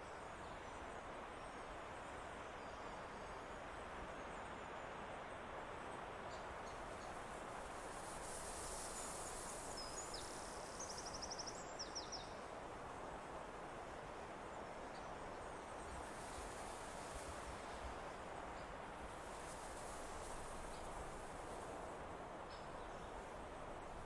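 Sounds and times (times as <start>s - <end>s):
wind through trees: 0.0s - 24.0s.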